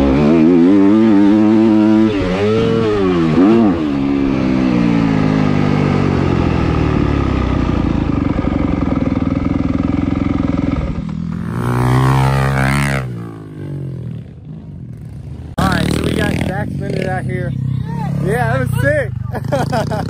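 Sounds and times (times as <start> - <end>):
dirt bike engine revving: 0.0 - 20.0
small pit bike engine revving: 0.0 - 20.0.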